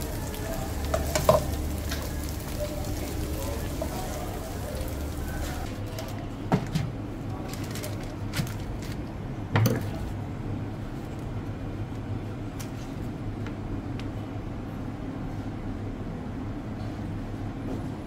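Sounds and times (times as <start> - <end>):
low hum of street-food counter: 0.0 - 18.0.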